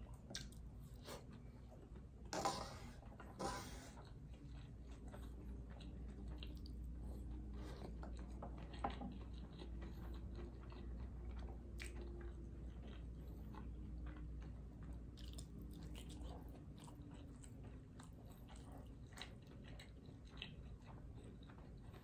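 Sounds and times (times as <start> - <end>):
faint low hum: 0.0 - 22.0
person chewing food: 0.0 - 22.0.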